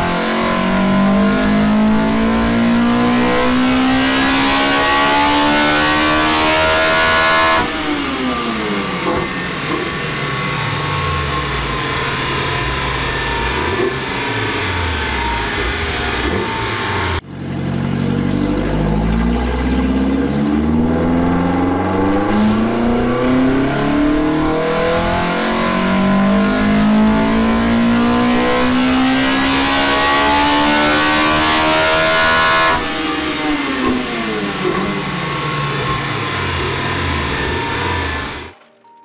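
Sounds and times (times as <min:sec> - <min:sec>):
car engine revving on dyno: 0:00.0 - 0:38.6.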